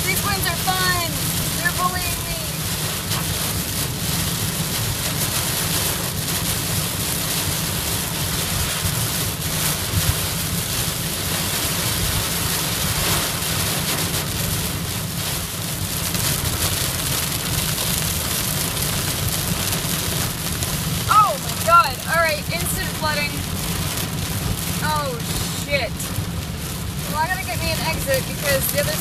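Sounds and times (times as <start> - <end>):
heavy rain drumming on car: 0.0 - 29.0
tyres rumbling on wet road: 0.0 - 29.0.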